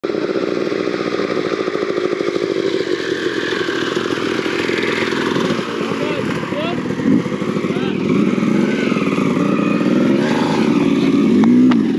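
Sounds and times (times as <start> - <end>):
dirt bike engines idling: 0.0 - 11.9.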